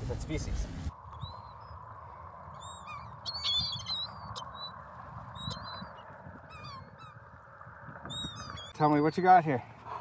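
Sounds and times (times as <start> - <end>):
gulls calling: 0.2 - 10.0.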